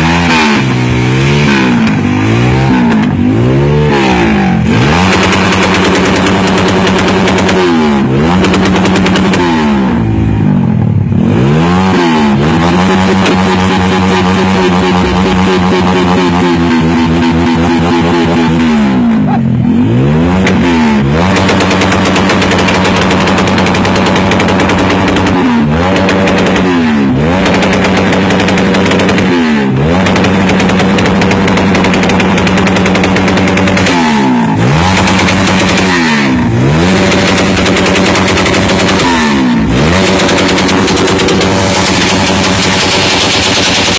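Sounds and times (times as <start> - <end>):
motorcycle exhaust popping: 0.0 - 10.0, 12.0 - 18.7, 20.2 - 43.9.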